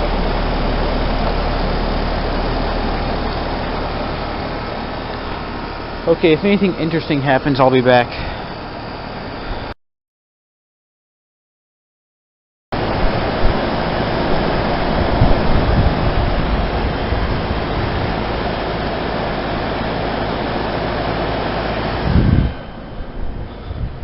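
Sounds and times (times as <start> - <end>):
heat pump air rush: 0.0 - 9.8, 12.8 - 24.0
motor and compressor hum: 0.0 - 9.8, 12.8 - 24.0.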